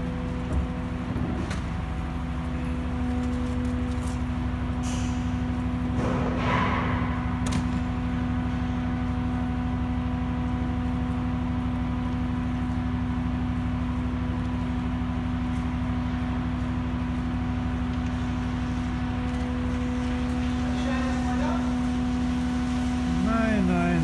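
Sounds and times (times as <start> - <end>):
ship machinery humming: 0.0 - 24.0.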